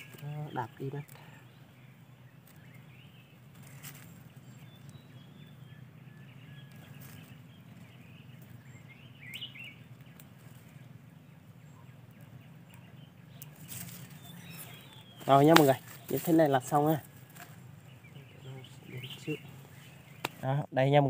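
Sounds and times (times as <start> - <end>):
low background hum: 0.0 - 20.4
hands rustling dry leaves: 0.0 - 20.6
faint bird chirps: 0.0 - 21.0.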